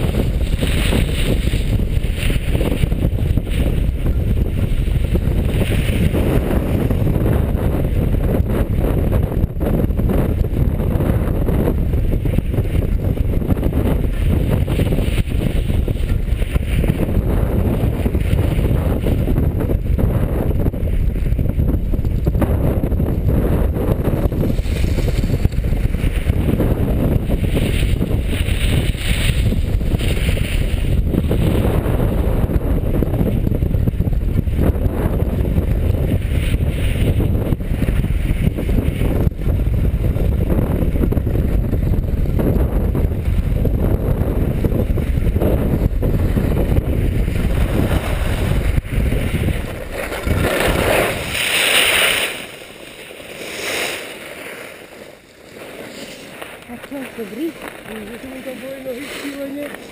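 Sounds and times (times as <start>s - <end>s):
skis sliding on packed snow: 0.0s - 8.8s, 9.6s - 59.9s
wind buffeting microphone: 0.0s - 54.2s, 54.8s - 59.9s.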